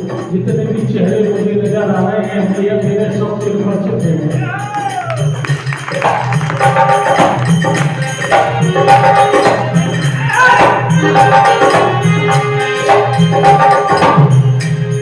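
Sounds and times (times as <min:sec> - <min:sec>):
steady drum beat: 0:00.0 - 0:15.0
tambourine jingles: 0:00.0 - 0:15.0.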